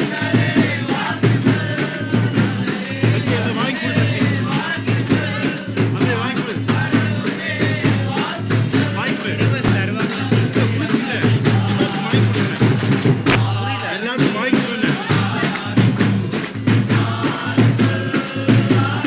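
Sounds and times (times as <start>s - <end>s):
group singing: 0.0s - 19.0s
percussion beat: 0.0s - 19.0s
rattling shaker: 0.0s - 19.0s.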